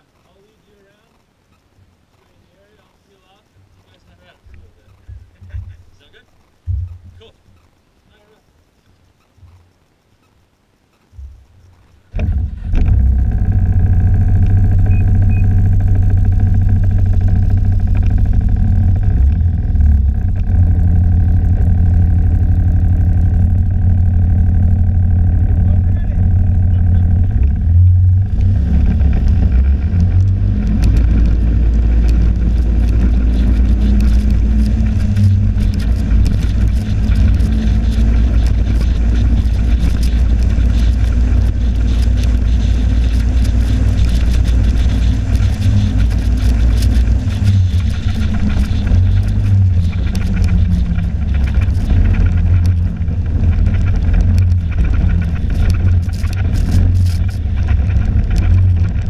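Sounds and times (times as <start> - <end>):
snowmobile engine rumbling: 11.2 - 59.0.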